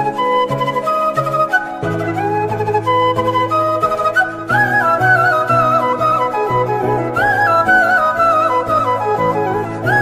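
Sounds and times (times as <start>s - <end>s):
flute melody with sliding notes: 0.0s - 10.0s
low musical accompaniment: 0.0s - 10.0s.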